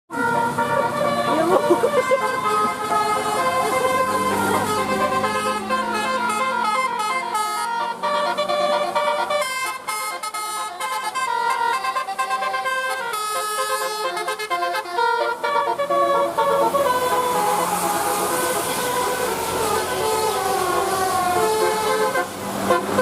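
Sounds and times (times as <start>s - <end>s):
multi-tone musical bus horn: 0.1s - 23.0s.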